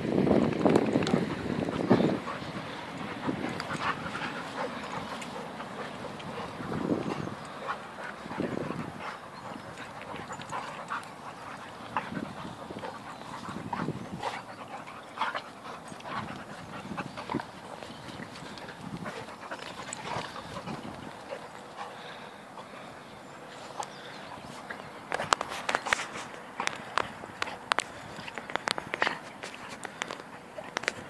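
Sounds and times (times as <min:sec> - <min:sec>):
dogs panting: 0:00.3 - 0:31.0
dogs vocalising while playing: 0:00.7 - 0:31.0.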